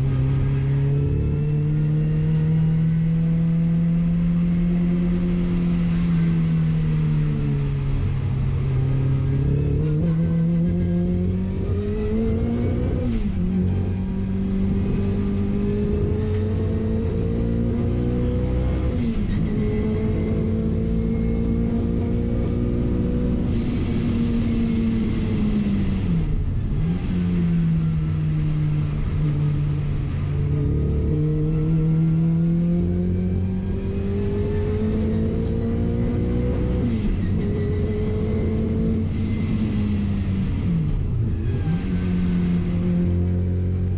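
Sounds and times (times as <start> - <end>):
car engine revving: 0.0 - 43.9
road and wind rumble: 0.0 - 43.9.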